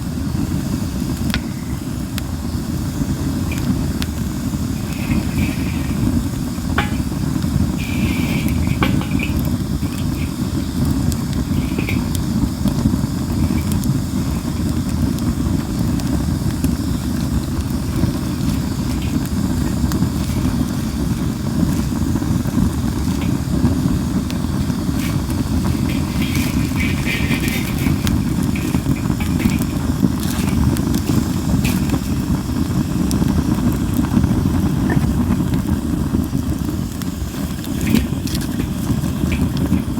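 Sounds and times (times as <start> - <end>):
firewood crackling and popping: 0.0 - 39.9
low fire rumble: 0.0 - 39.9
short hisses from burning wood: 0.0 - 39.9.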